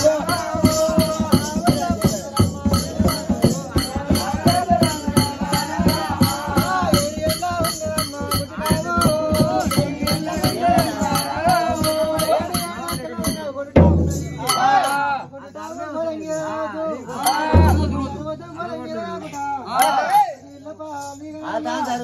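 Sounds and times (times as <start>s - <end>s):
rattling jingles and drum beat: 0.0s - 16.5s, 17.1s - 19.0s
folk story-singing: 0.0s - 22.0s.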